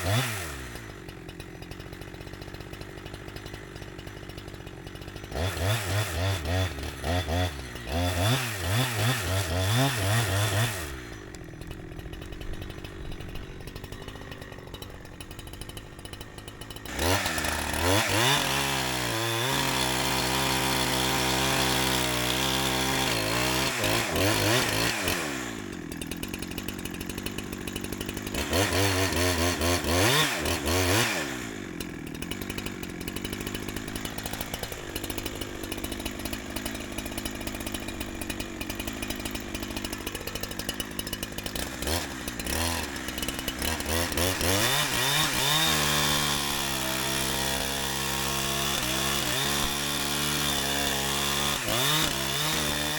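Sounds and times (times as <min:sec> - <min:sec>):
chainsaw running and idling: 0:00.0 - 0:52.9.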